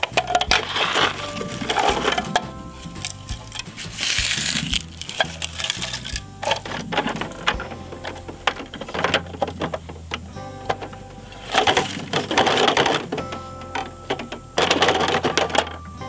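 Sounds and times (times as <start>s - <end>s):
plastic toy parts clicking and scraping: 0.0s - 15.9s
background music: 0.0s - 16.0s.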